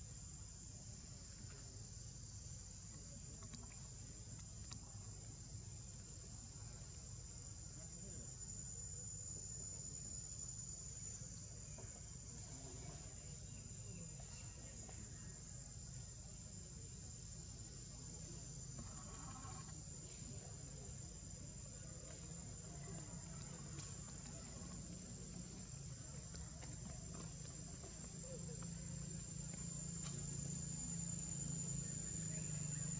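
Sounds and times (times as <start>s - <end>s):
insects droning: 0.0s - 32.9s.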